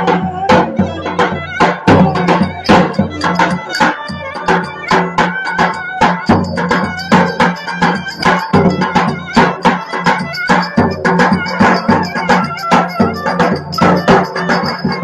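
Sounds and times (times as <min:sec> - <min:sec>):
percussion beat: 0:00.0 - 0:15.0.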